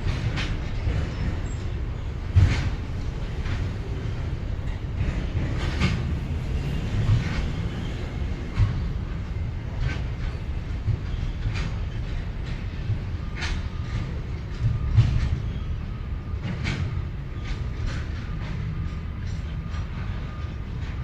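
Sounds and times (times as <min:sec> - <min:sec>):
freight train wagons rumbling: 0:00.0 - 0:21.0
wheels knocking on rail joints: 0:00.0 - 0:21.0.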